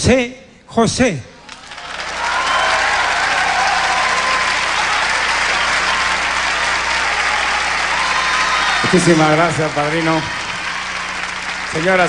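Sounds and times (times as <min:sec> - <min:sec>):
studio audience applauding: 0:01.5 - 0:12.0.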